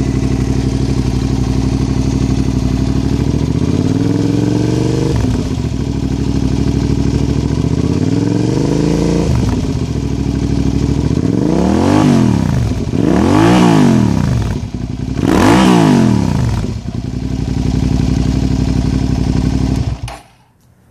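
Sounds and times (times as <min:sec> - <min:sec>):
motorcycle engine idling and revving: 0:00.0 - 0:20.4.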